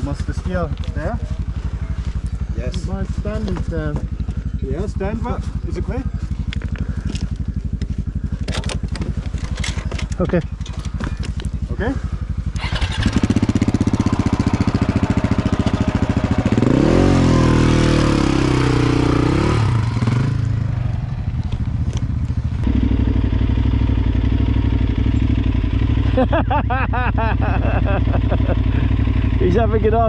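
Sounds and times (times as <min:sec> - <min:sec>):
motorcycle engine labouring: 0:00.0 - 0:30.0
motorcycle riding off: 0:00.0 - 0:30.0.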